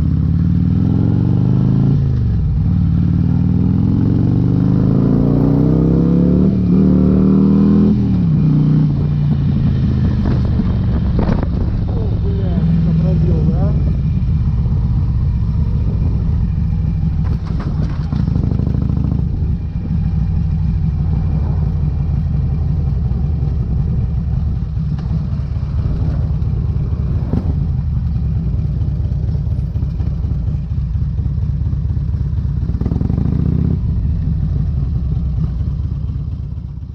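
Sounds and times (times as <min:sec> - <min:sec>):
motorcycle engine deep rumble: 0:00.0 - 0:36.9.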